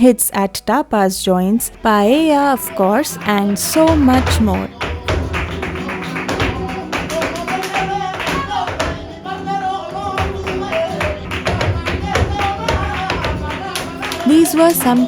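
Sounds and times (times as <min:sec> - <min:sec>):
guitar: 0:00.0 - 0:15.0
person singing: 0:00.0 - 0:15.0
rhythmic percussive strikes: 0:00.0 - 0:15.0.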